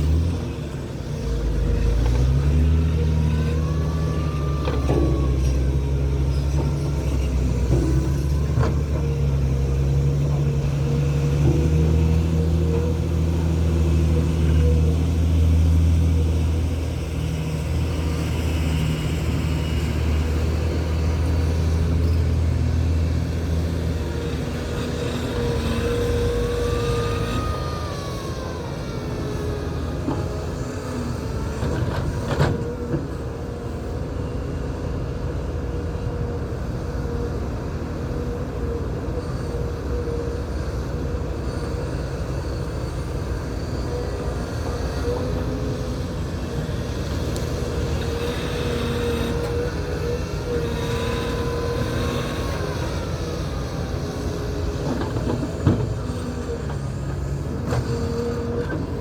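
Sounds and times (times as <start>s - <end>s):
large diesel engine running: 0.0s - 59.0s.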